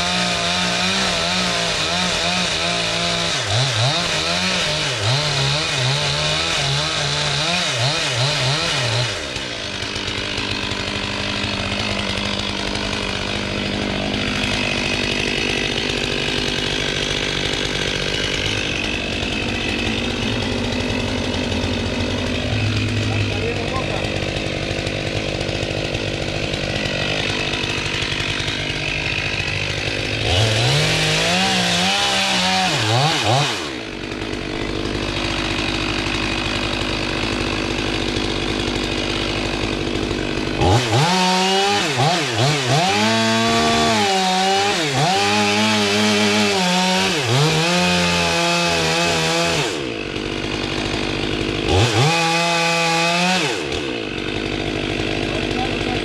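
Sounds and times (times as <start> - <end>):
chainsaw at full throttle cutting wood: 0.0 - 56.0
chainsaw idling: 0.0 - 56.0.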